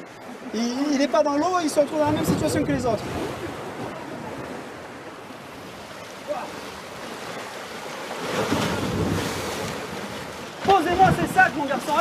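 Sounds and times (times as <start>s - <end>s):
surf breaking against rocks: 0.9s - 12.0s.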